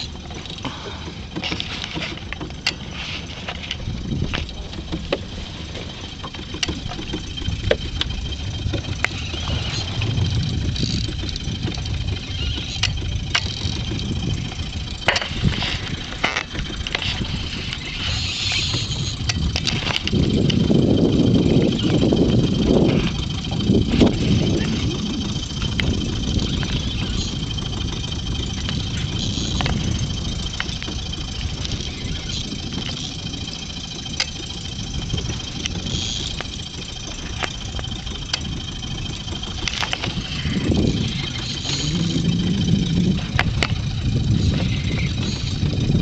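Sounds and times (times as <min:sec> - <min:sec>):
boat engine running low: 0:00.0 - 0:46.0
fishing reel clicking and hissing: 0:00.0 - 0:46.0
water noise: 0:00.0 - 0:46.0
wind noise: 0:00.0 - 0:46.0.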